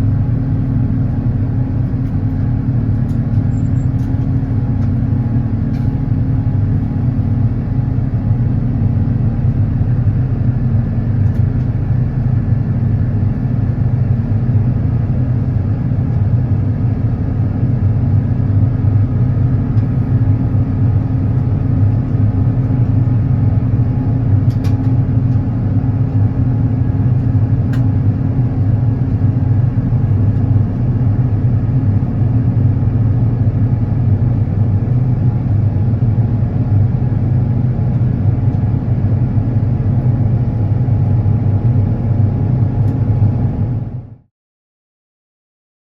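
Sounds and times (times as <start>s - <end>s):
aircraft cabin engine rumble: 0.0s - 44.3s.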